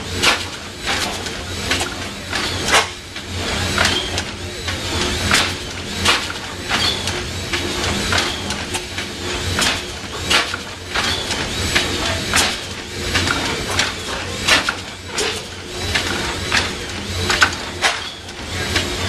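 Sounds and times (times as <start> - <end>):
sharp engine clack: 0.0 - 19.0
stationary engine humming: 0.0 - 19.0.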